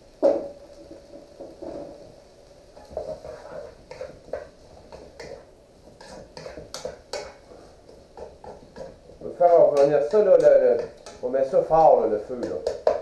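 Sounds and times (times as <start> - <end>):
wooden spoon scraping a wok: 0.7 - 13.0.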